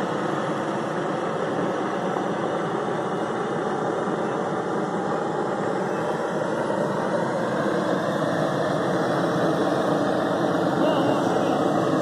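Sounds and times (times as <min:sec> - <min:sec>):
gas burner roaring: 0:00.0 - 0:12.0.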